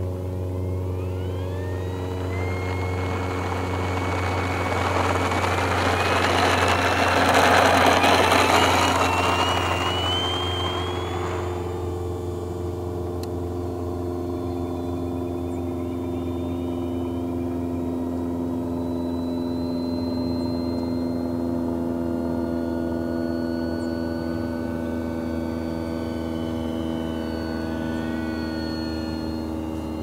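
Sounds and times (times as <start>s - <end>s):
electric motor and propeller drone: 0.0s - 30.0s.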